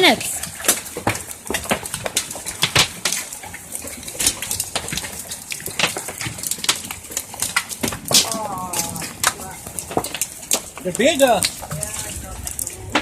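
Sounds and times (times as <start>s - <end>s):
hailstones pelting down: 0.0s - 13.0s.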